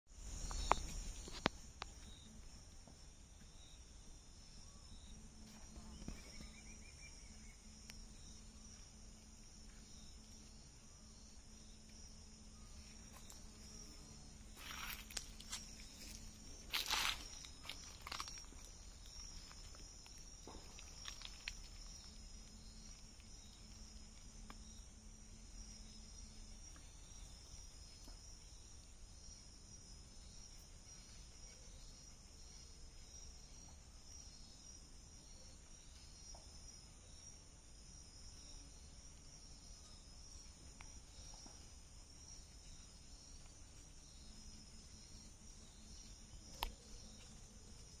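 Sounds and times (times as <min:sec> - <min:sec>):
insects trilling: 0:00.1 - 0:48.0.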